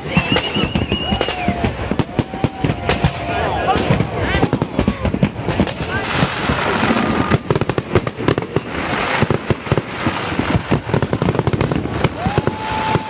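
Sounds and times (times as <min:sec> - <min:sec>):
firecrackers banging and crackling: 0:00.0 - 0:13.0.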